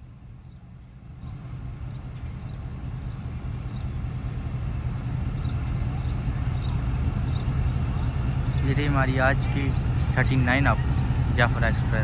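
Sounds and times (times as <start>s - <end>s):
locomotive engine rumble: 0.0s - 12.0s.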